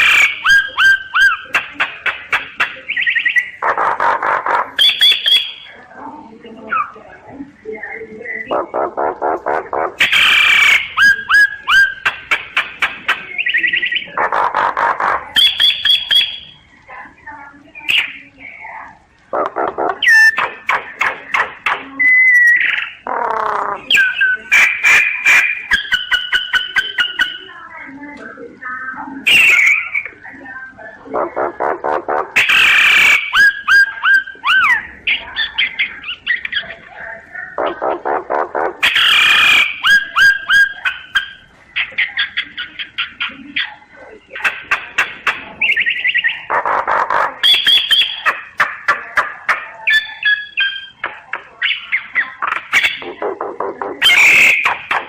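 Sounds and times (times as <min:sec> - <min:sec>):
myna bird singing: 0:00.0 - 0:55.0.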